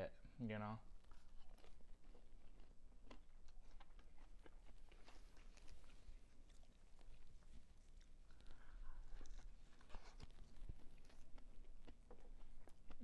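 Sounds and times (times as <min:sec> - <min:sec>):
chewing food: 0:00.8 - 0:13.0.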